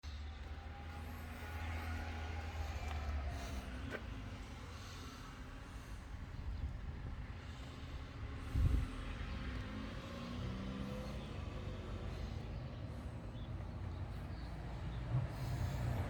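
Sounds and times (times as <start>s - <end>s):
van engine running: 0.3s - 16.0s.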